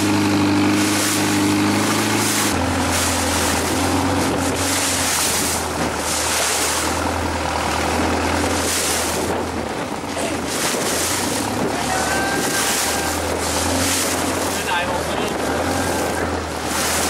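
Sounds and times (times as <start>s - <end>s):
boat engine droning: 0.0s - 17.0s
sea water rushing: 0.0s - 17.0s
wind gusts on microphone: 2.2s - 17.0s.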